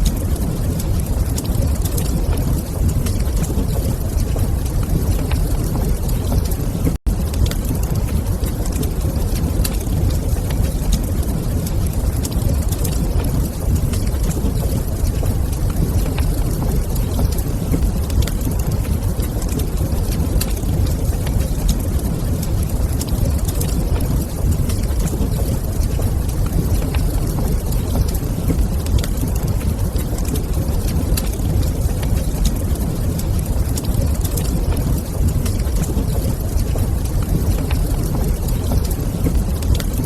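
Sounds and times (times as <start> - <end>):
deep rumble: 0.0 - 40.0
fire popping and snapping: 0.0 - 40.0
wood fire crackling: 0.0 - 40.0.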